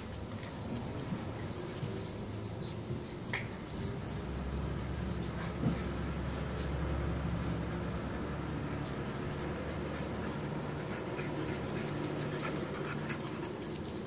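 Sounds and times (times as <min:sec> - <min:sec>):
dogs breathing and scuffling: 0:00.0 - 0:14.0.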